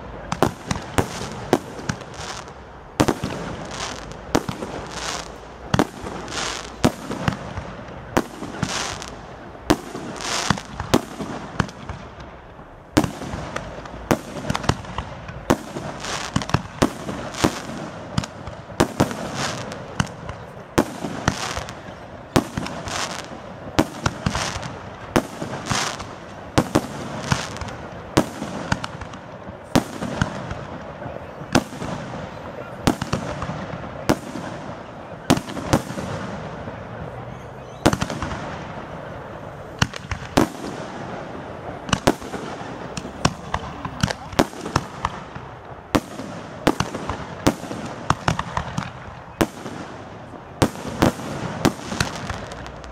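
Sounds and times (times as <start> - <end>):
fireworks bangs: 0.0 - 52.9
fireworks hiss: 0.0 - 52.9.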